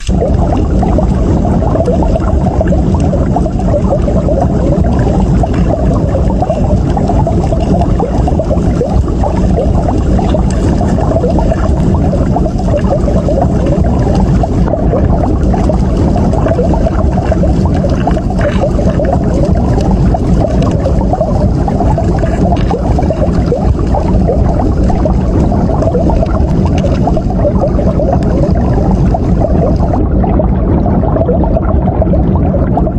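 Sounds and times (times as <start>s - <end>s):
underwater rushing water: 0.0s - 32.9s.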